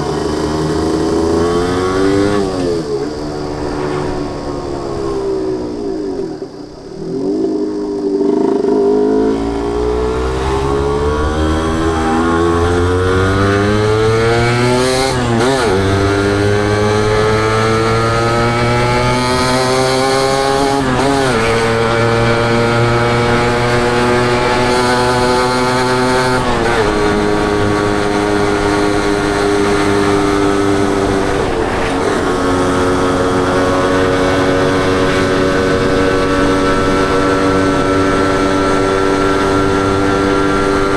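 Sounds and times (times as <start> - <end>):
motorcycle accelerating through gears: 0.0 - 40.9.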